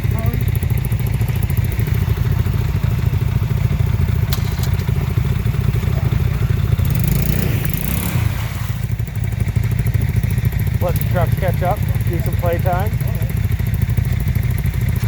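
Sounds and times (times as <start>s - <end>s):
vehicle engine at low revs: 0.0s - 15.0s.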